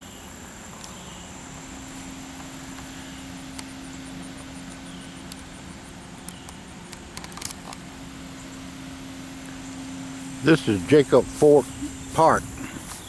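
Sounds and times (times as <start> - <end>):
low rumble with hum: 1.2 - 13.0.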